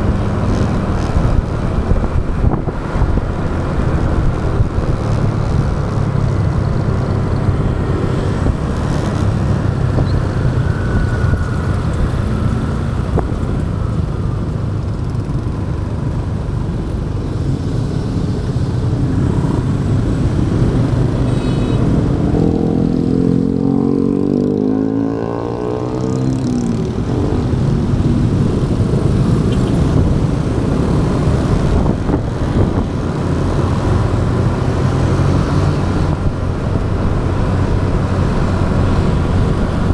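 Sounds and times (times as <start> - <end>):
wind noise: 0.0 - 24.4, 25.1 - 39.9
motorcycle engine and road rumble: 0.0 - 39.9.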